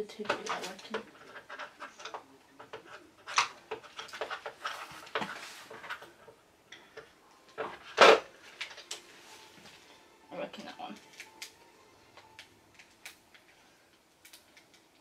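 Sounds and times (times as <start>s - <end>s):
clicks and rustles: 0.0s - 9.8s, 10.6s - 11.6s, 12.2s - 15.0s
toys and packaging handled: 0.0s - 15.0s.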